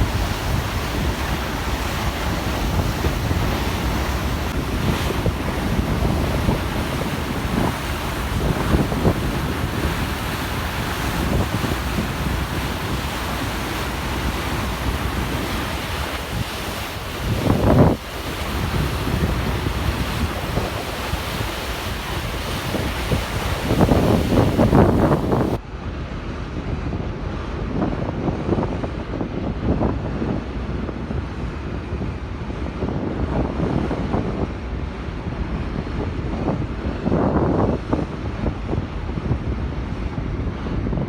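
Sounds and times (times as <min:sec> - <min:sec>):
water rushing past ferry: 0:00.0 - 0:41.0
wind buffeting the microphone: 0:00.0 - 0:41.0.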